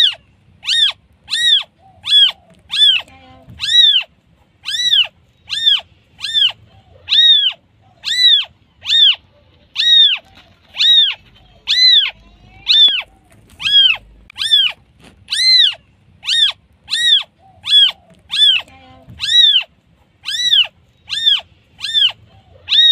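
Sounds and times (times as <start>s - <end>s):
kitten meowing: 0.0s - 22.9s.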